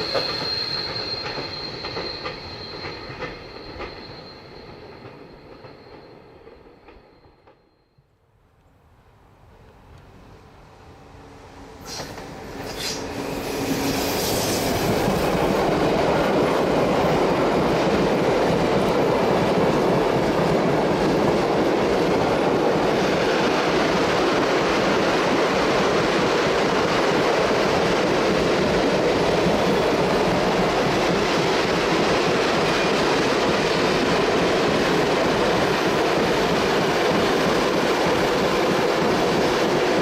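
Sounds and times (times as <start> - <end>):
train wheels rolling on rails: 0.0 - 7.9, 11.0 - 40.0.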